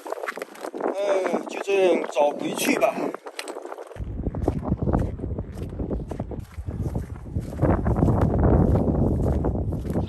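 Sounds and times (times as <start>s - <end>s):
footsteps on rocks: 0.0s - 10.0s.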